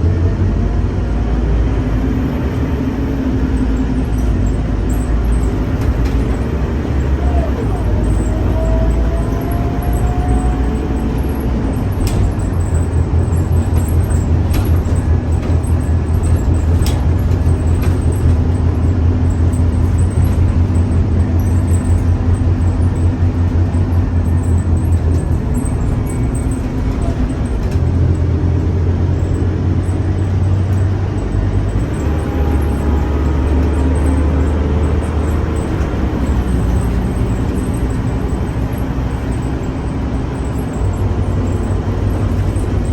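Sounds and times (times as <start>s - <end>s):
bus diesel engine rumbling: 0.0s - 42.9s.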